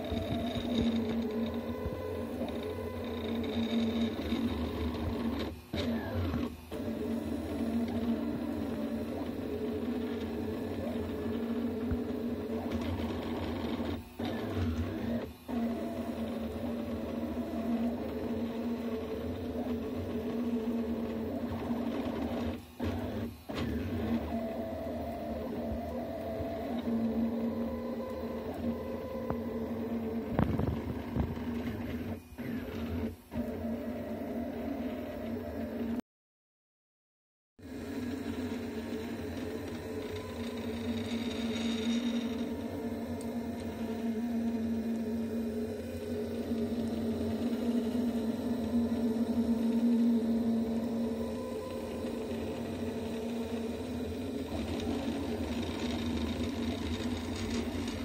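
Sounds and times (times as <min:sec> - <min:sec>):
stepper motors whining: 0:00.0 - 0:36.0, 0:37.7 - 0:58.0.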